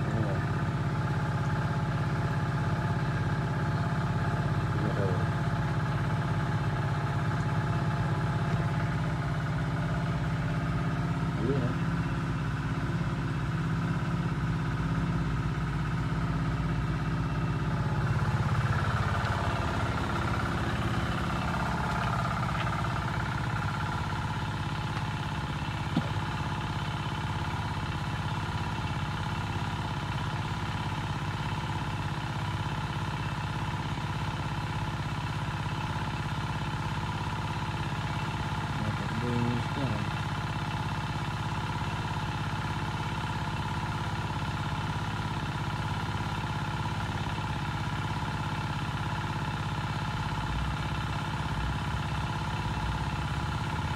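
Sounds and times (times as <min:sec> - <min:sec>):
small engine idling: 0:00.0 - 0:53.9.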